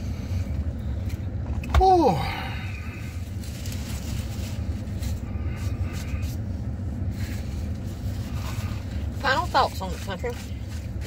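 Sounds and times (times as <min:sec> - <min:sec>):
vehicle idling rumble: 0:00.0 - 0:11.0.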